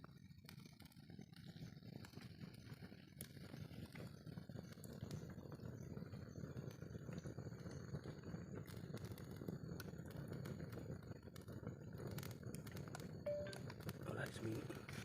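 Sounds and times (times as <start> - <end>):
wood fire crackling: 0.0 - 15.0
curry bubbling: 1.9 - 15.0.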